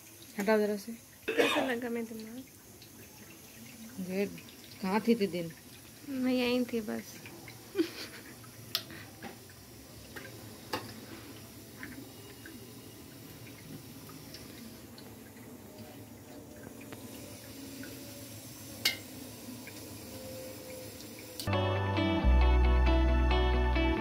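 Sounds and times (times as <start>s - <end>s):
liquid trickling through strainer: 0.0s - 21.4s.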